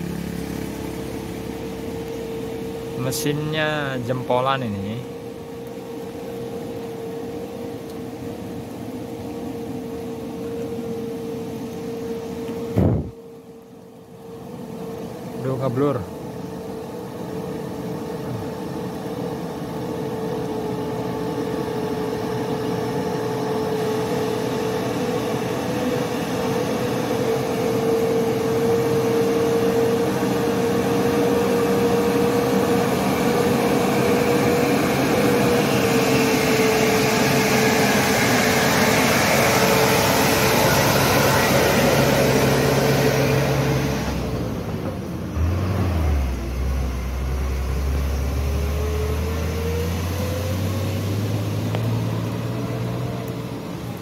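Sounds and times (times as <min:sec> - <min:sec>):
diesel truck engine passing: 0:00.0 - 0:10.5, 0:17.1 - 0:54.0.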